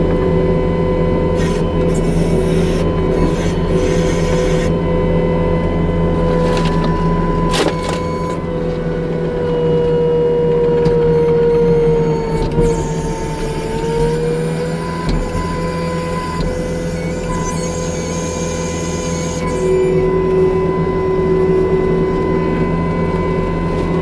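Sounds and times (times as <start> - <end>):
diesel engine running: 0.0 - 24.0
hydraulic whine: 0.0 - 24.0.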